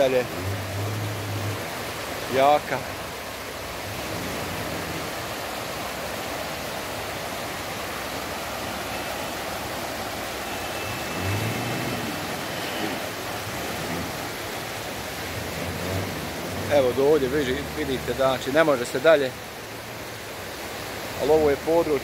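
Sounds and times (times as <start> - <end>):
floodwater rushing over stones: 0.0 - 22.0.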